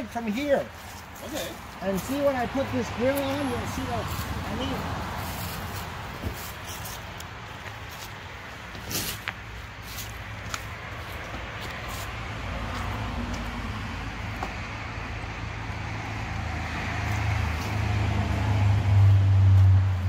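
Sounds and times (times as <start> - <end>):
car engine hum and tyre hiss: 0.0 - 20.0.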